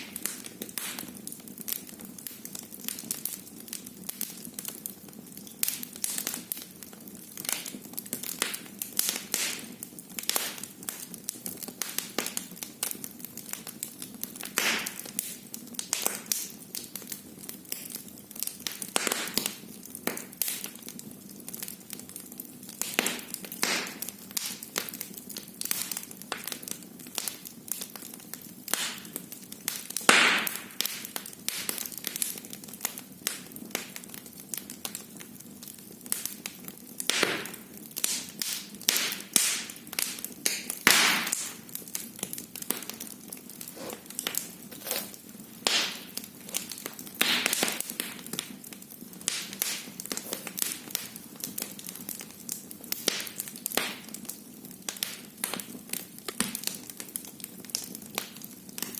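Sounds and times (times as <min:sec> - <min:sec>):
loud fire pops: 0:00.0 - 0:04.4, 0:07.4 - 0:12.8, 0:13.4 - 0:17.1, 0:17.7 - 0:20.8, 0:22.8 - 0:35.0, 0:36.1 - 0:58.9
wood fire crackling: 0:00.0 - 0:58.9.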